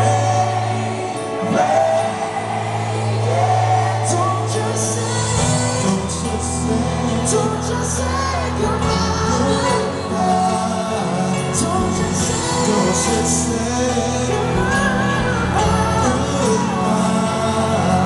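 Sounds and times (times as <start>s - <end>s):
bass notes: 0.0s - 18.0s
person singing: 0.0s - 18.0s.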